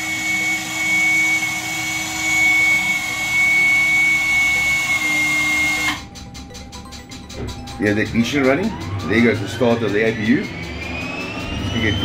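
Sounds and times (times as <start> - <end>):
turbine whine: 0.0 - 12.0.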